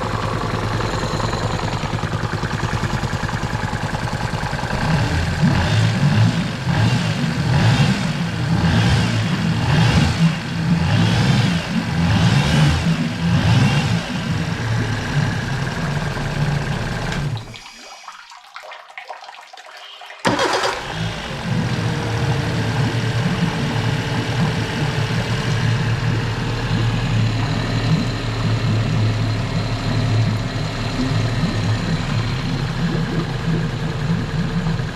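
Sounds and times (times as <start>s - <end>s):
outboard motor running: 0.0s - 17.7s, 20.2s - 34.9s.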